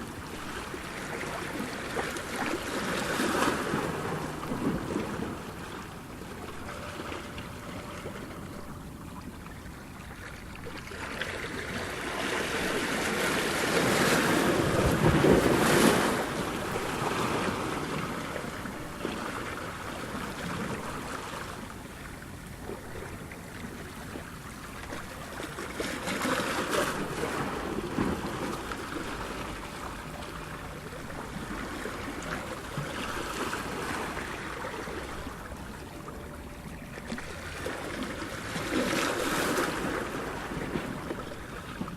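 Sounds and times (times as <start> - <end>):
ocean waves breaking on beach: 0.0 - 9.2, 10.2 - 41.9.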